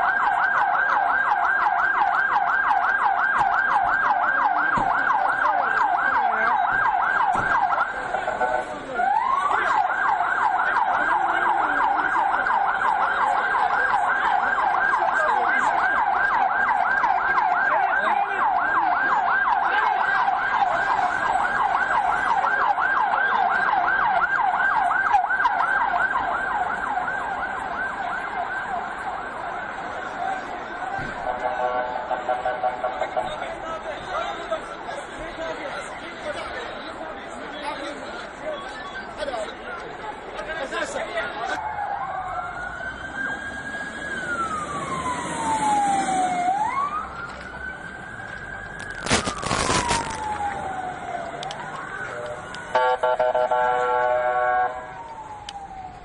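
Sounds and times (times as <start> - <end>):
emergency siren yelp and wail: 0.0 - 56.0.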